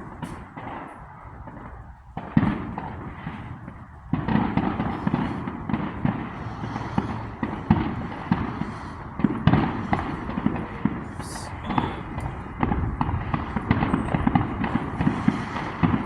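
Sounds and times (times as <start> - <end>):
firework bang: 0.0 - 16.0
fireworks crackling pops: 0.0 - 16.0.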